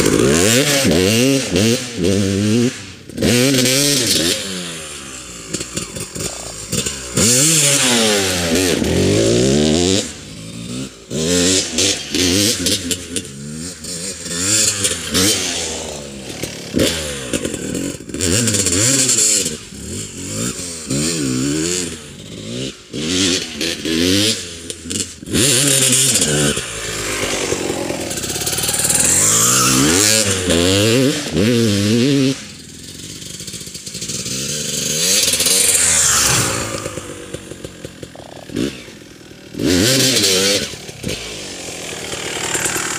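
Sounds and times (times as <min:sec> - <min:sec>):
two-stroke engine revving: 0:00.0 - 0:42.9.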